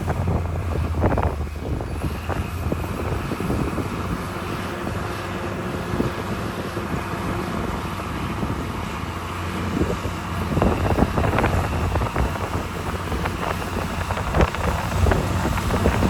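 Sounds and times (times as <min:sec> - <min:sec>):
heavy diesel machinery running: 0:00.0 - 0:16.0
wind on microphone: 0:00.0 - 0:16.0.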